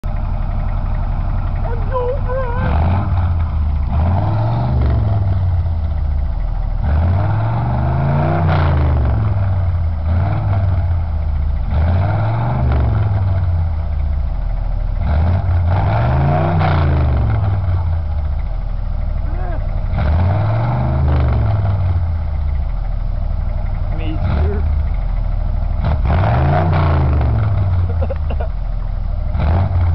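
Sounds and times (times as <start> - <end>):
engine revving: 0.0 - 29.9.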